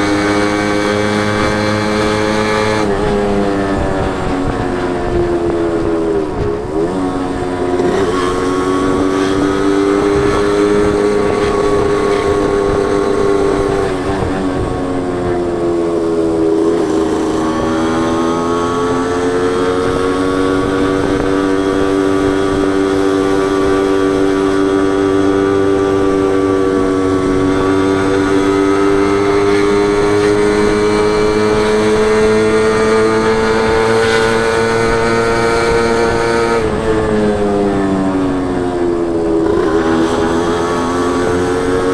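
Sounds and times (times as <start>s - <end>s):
two-stroke motorcycle engine running: 0.0s - 41.9s.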